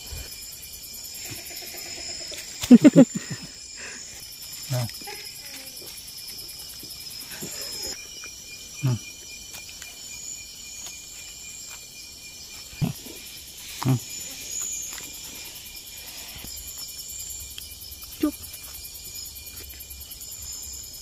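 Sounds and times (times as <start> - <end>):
crickets and insects trilling: 0.0 - 21.0.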